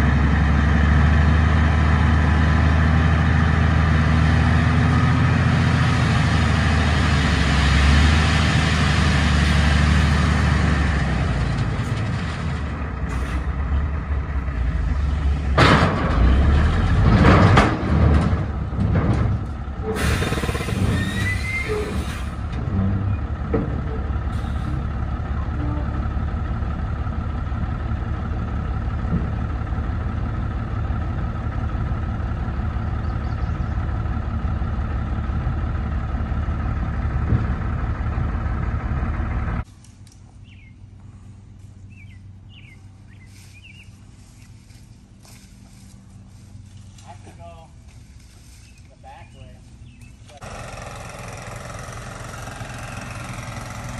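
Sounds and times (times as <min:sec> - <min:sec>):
heavy vehicle engine running: 0:00.0 - 0:48.8, 0:49.6 - 0:53.9.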